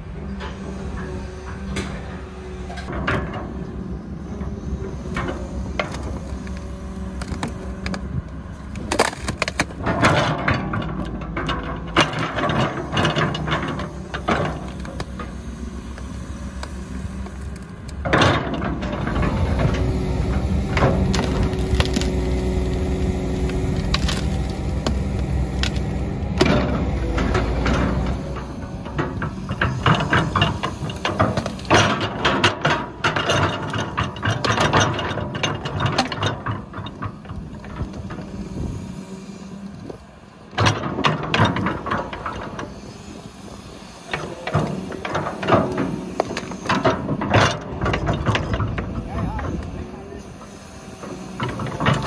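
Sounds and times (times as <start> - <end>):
excavator diesel engine running: 0.0 - 52.0
rock and soil clanking: 4.4 - 39.2, 44.0 - 52.0.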